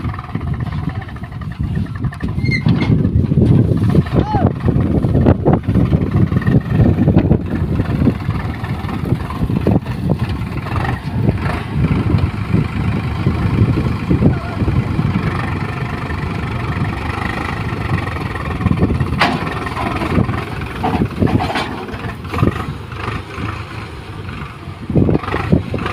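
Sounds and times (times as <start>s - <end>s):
diesel engine rumbling: 0.0s - 25.9s.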